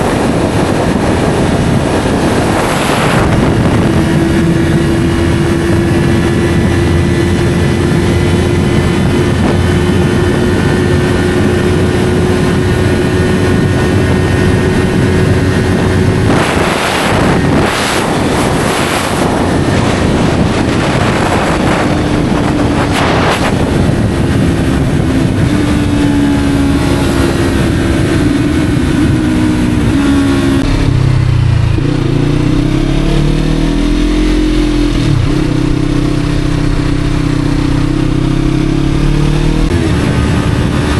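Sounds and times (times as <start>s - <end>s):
motorcycle engine revving: 0.0s - 40.9s
noisy rushes: 0.0s - 40.9s.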